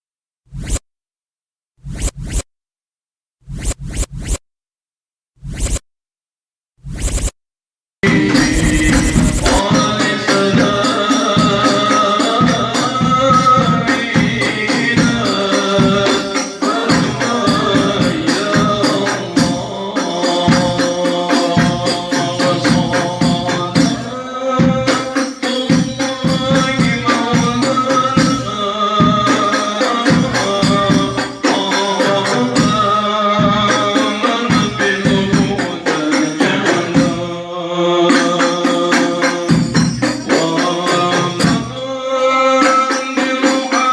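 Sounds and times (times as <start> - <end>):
beaten percussion: 8.0 - 37.4, 38.0 - 43.9
man singing ornamented melody: 8.0 - 43.9.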